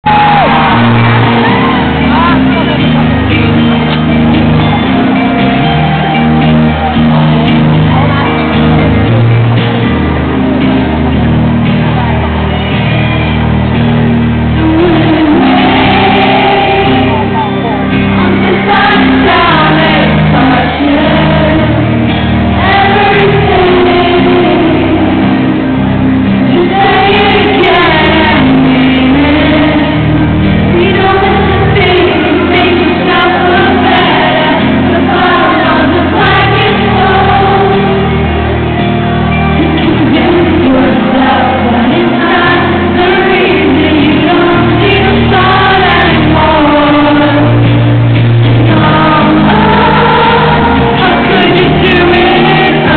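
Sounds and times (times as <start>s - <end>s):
woman singing lead: 0.0s - 9.9s, 11.6s - 52.9s
live rock band: 0.0s - 52.9s.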